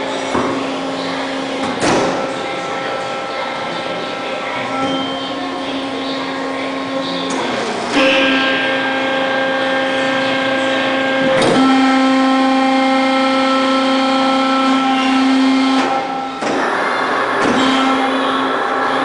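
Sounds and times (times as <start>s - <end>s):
machinery pitched hum: 0.0s - 19.0s.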